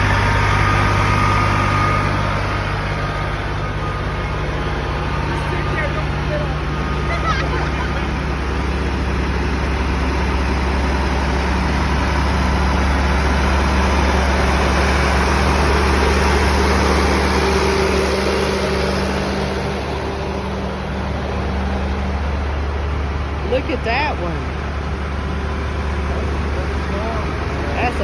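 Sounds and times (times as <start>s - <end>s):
tractor engines driving past: 0.0s - 28.0s.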